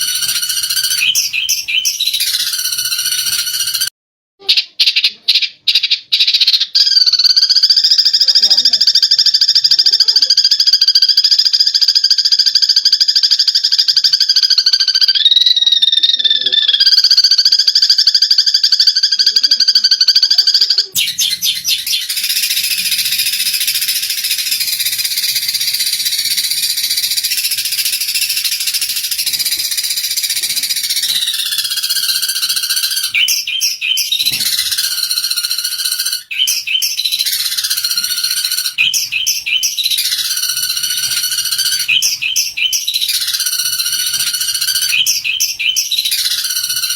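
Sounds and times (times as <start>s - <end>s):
sparrows chattering: 0.0s - 3.9s, 4.6s - 15.3s, 16.2s - 46.9s.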